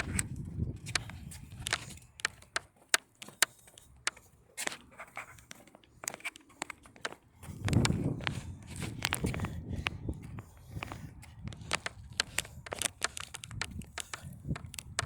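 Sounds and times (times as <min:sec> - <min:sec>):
footsteps on hard surface: 0:00.0 - 0:15.0.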